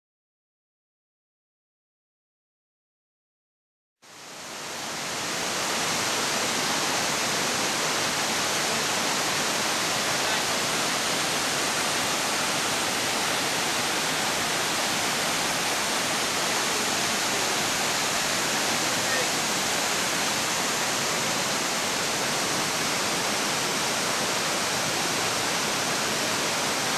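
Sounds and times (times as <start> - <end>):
waterfall rushing: 4.1 - 26.9.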